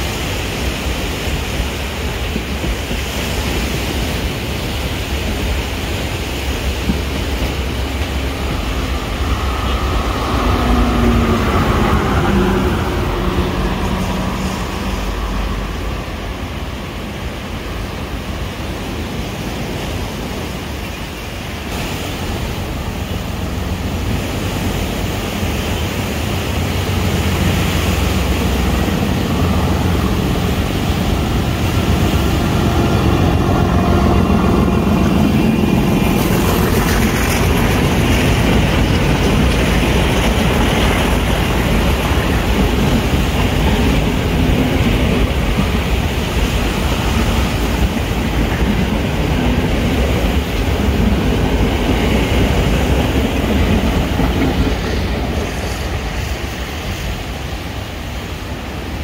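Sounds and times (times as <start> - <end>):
diesel locomotive engine under load: 0.0 - 59.0
train carriages rumbling on rails: 0.0 - 59.0.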